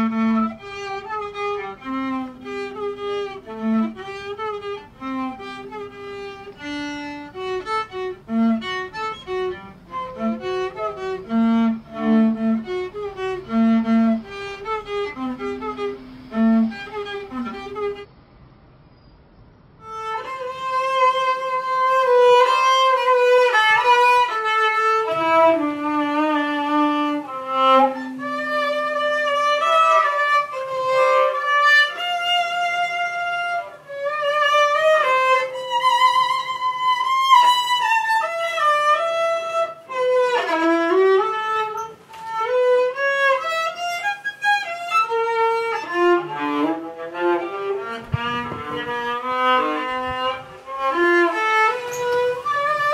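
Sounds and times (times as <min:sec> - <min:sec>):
violin melody: 0:00.0 - 0:18.1, 0:19.8 - 0:52.9.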